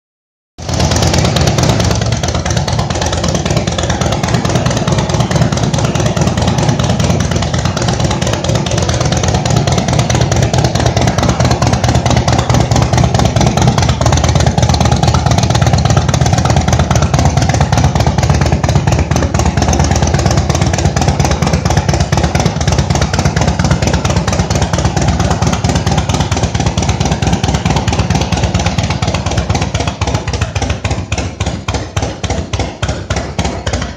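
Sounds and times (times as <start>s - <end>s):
motorcycle engine running: 0.6s - 33.9s.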